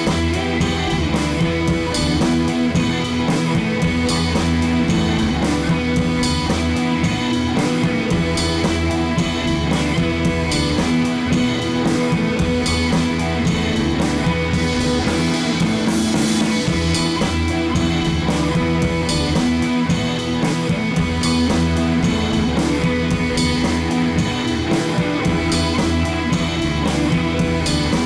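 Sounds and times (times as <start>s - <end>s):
rock music with guitar and drums: 0.0s - 28.0s.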